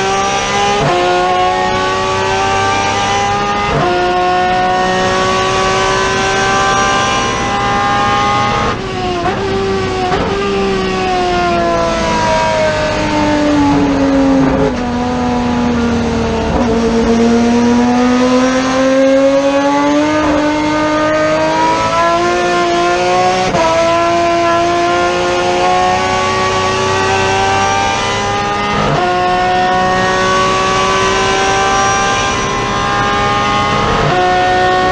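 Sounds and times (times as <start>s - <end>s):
racing car engine under load: 0.0s - 34.9s.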